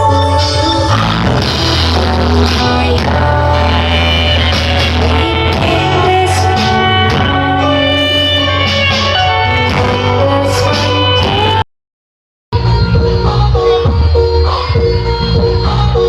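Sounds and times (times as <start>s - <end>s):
loud music with booming bass: 0.0s - 11.6s, 12.5s - 16.0s.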